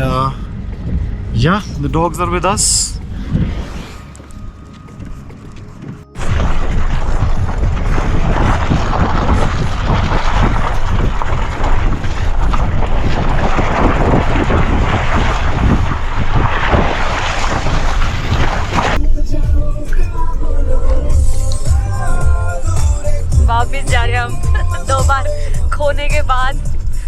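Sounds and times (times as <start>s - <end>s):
wind gusting on microphone: 0.0s - 27.0s.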